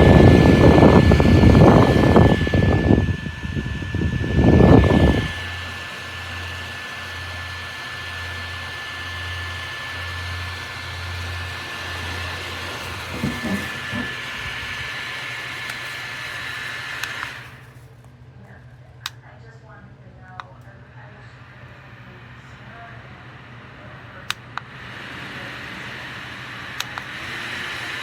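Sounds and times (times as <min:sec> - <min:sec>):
fan whirring with high whine: 0:00.0 - 0:28.0.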